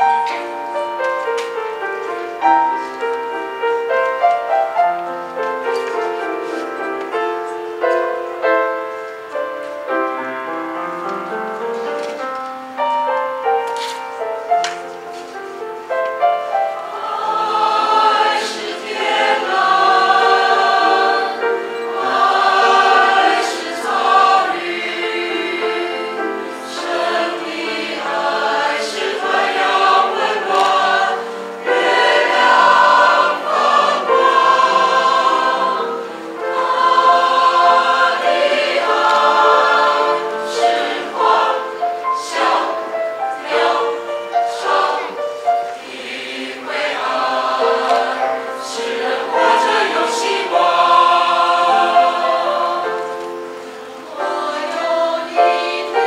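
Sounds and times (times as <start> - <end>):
mixed choir singing a hymn: 0.0 - 12.2, 15.2 - 56.0.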